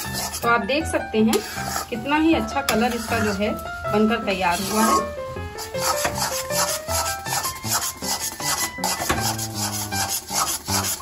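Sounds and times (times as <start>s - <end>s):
metal spatula scraping a pan: 0.0s - 11.0s.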